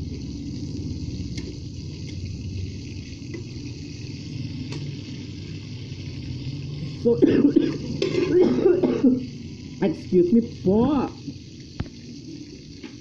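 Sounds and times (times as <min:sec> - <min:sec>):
hot dogs sizzling in a pan: 0:00.0 - 0:13.0.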